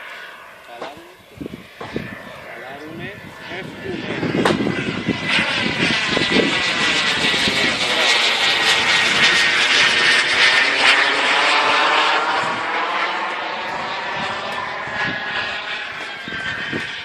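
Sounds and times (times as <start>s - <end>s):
model jet turbine whine: 0.0s - 17.0s.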